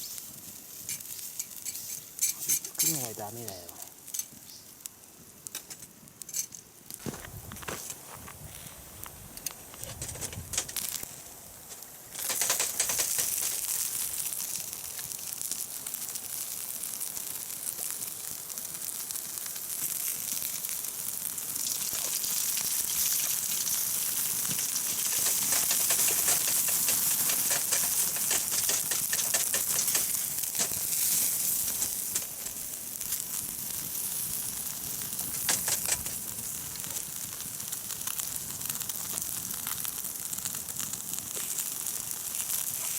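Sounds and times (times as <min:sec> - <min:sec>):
chicken sizzling over charcoal: 0:00.0 - 0:42.9.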